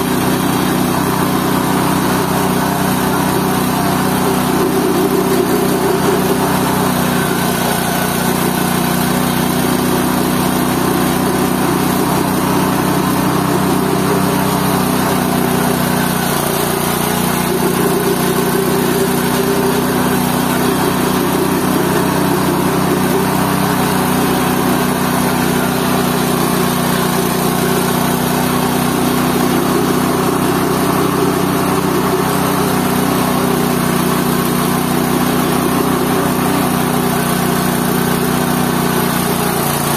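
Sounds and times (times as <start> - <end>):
slurry grinder running: 0.0 - 39.9.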